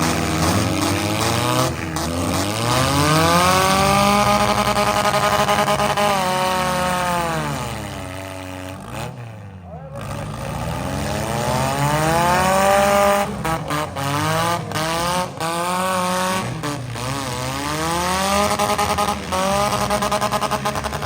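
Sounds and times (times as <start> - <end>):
car engines revving hard: 0.0 - 21.0.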